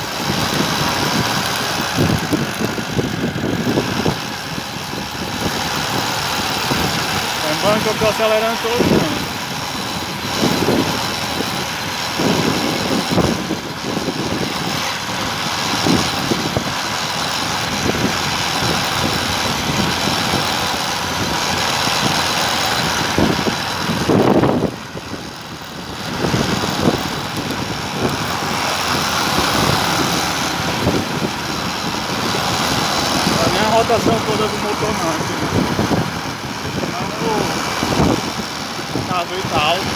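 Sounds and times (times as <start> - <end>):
steady rushing noise: 0.0 - 39.9
wind buffeting microphone: 0.0 - 39.9.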